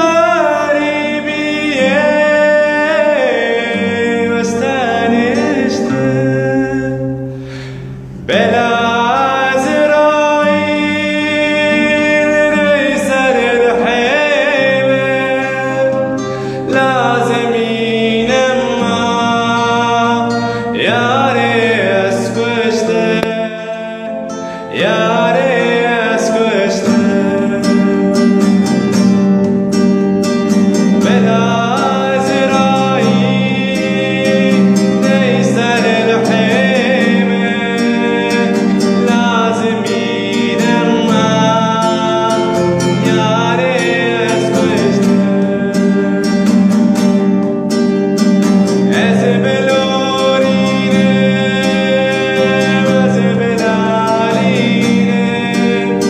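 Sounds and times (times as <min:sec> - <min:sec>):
man singing: 0:00.0 - 0:29.0, 0:30.4 - 0:47.2, 0:48.2 - 0:56.0
strummed acoustic guitar: 0:00.0 - 0:56.0.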